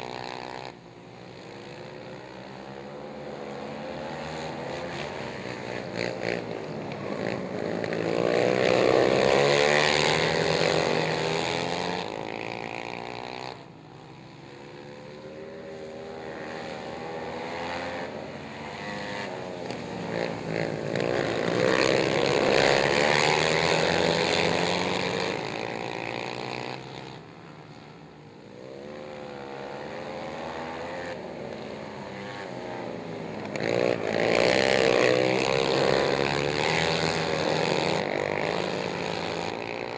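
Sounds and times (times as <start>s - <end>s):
racing quad engines at full throttle: 0.0s - 39.9s.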